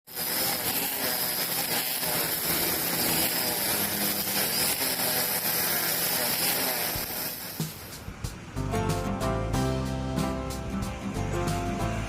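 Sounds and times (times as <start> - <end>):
brush cutters running at high speed: 0.1 - 8.6, 10.5 - 12.0.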